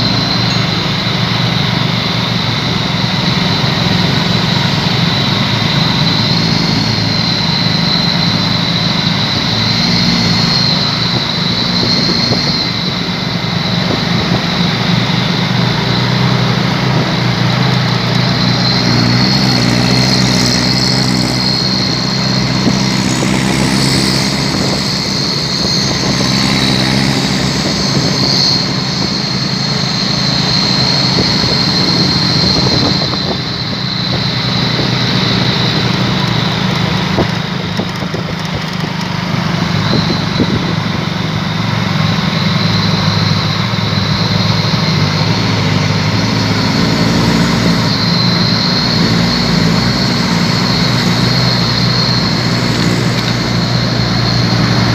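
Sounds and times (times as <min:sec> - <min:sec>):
high-pitched whine: 0:00.0 - 0:54.9
truck engines deep exhaust: 0:00.0 - 0:54.9.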